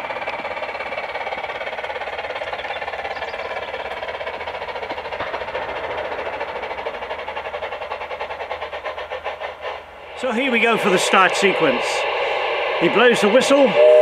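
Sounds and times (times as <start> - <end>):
model train steam chuffing: 0.0 - 14.0.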